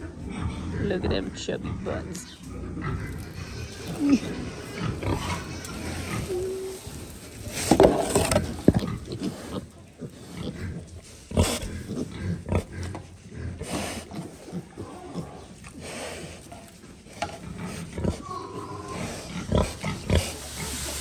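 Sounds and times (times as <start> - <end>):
piglets grunting: 0.0 - 16.5, 17.4 - 21.0.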